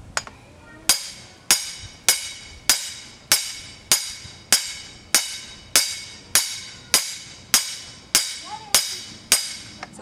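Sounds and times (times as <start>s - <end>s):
metal pipe striking metal: 0.9s - 9.9s.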